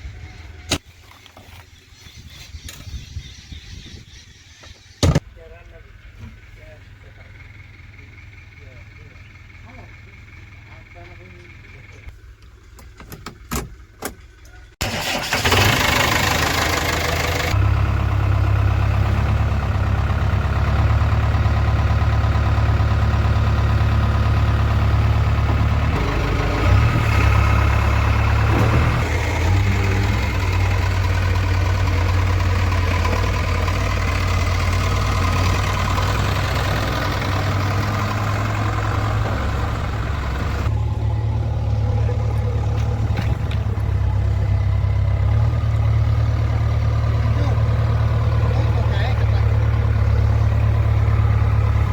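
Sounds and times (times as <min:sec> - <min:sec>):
diesel engine running: 0:05.3 - 0:51.9
diesel engine starting up: 0:05.4 - 0:51.9.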